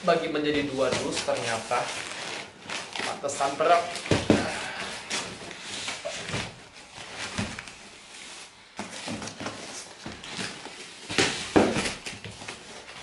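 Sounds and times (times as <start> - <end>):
packing paper rustling: 0.3 - 13.0
cardboard flaps scraping: 0.5 - 13.0.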